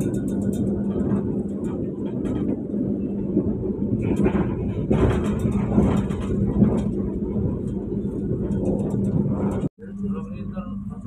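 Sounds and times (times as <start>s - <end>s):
rail and wheel noise with ticks: 0.0s - 11.0s
train interior rumble and hum: 0.0s - 11.0s.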